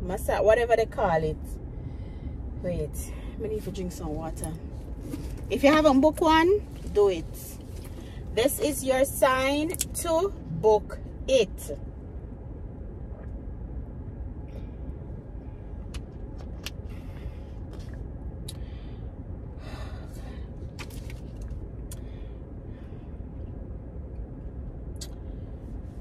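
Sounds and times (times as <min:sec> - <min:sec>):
low rumble inside car cabin: 0:00.0 - 0:26.0.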